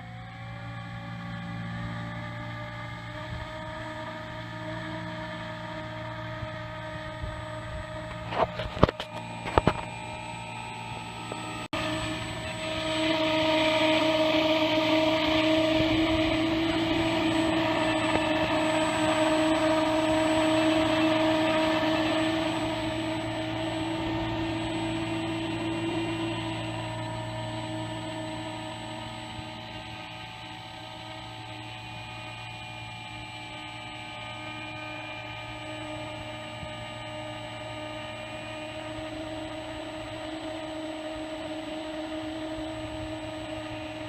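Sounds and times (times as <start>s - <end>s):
model plane motor whine: 0.0s - 44.0s.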